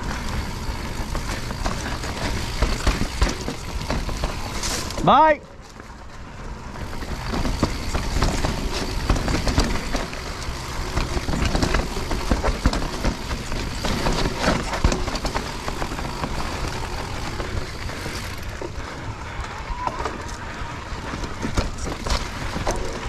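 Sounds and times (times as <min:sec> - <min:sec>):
bicycle tyre noise: 0:00.0 - 0:23.0
bike chain and frame rattling: 0:00.0 - 0:23.0.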